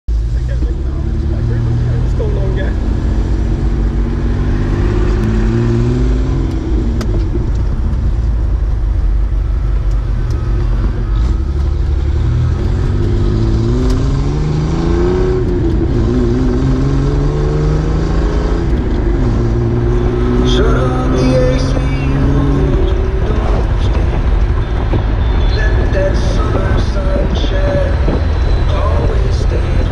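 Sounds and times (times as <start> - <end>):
truck engine accelerating: 0.1 - 29.9.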